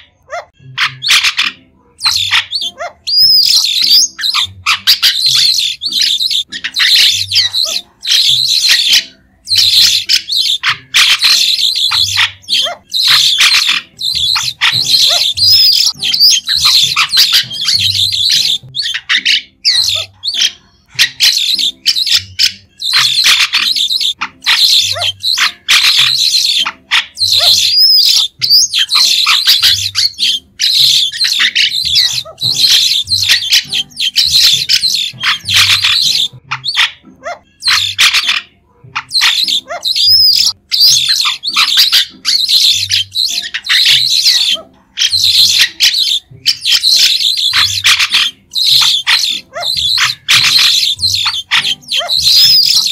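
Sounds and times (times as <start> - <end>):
starling chattering calls: 0.1 - 52.9.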